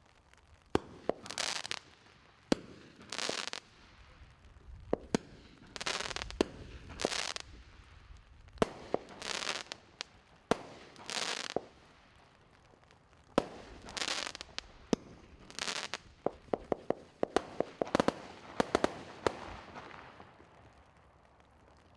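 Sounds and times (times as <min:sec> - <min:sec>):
firework crackling pops: 0:00.0 - 0:21.9.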